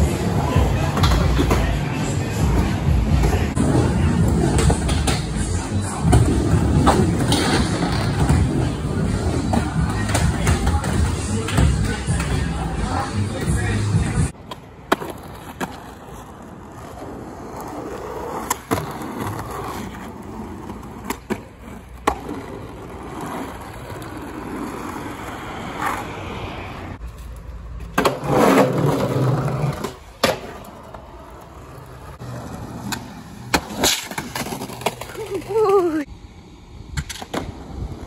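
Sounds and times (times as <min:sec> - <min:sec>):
skateboard clacking: 0:00.0 - 0:26.1, 0:27.4 - 0:36.1
skateboard wheels rolling: 0:00.0 - 0:38.0.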